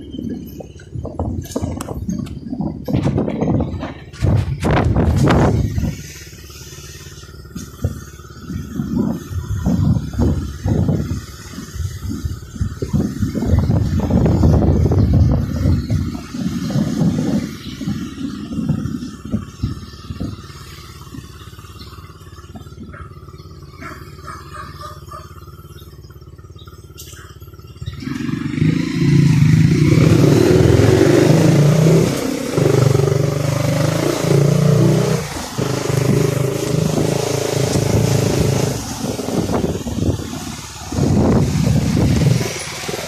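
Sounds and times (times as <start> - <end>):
rushing wind noise: 0.0 - 21.6, 27.9 - 43.0
motorcycle engine running: 0.0 - 43.0.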